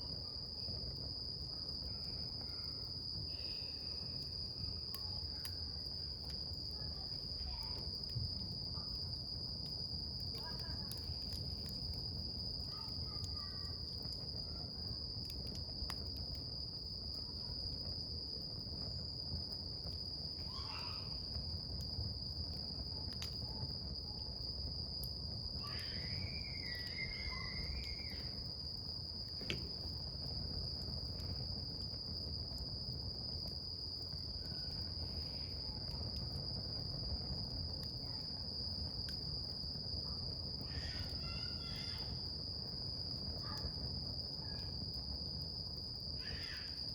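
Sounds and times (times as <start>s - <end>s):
campfire crackling and popping: 0.0s - 46.9s
high insect trill: 0.3s - 46.9s.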